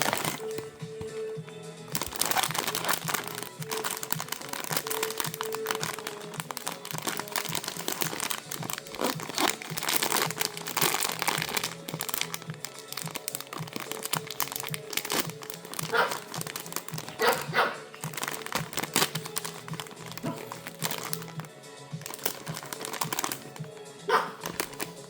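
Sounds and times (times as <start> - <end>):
light background music: 0.0 - 25.0
packaging crinkling: 0.0 - 25.0.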